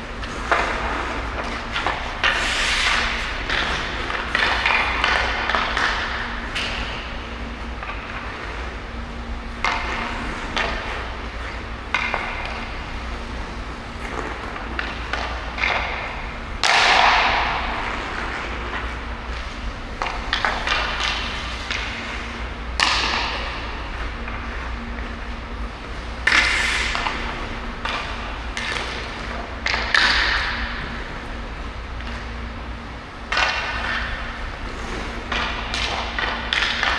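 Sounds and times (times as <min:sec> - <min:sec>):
low rink hum: 0:00.0 - 0:36.9
skates scraping ice: 0:00.0 - 0:36.9.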